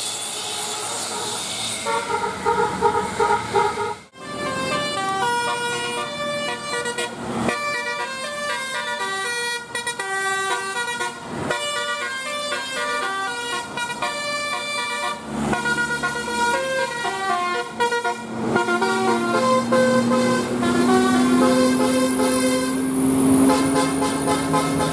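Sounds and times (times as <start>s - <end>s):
bus musical horn tune: 0.6s - 24.9s.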